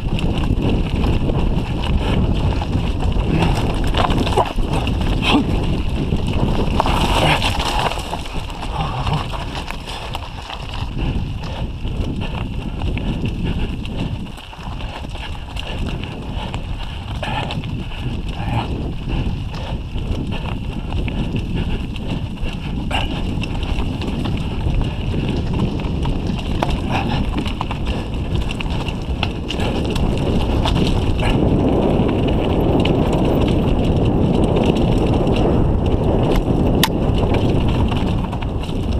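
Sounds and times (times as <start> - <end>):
bike rattling: 0.0 - 38.9
tyres crunching over stones: 0.0 - 38.9
wind rumble on microphone: 0.0 - 38.9.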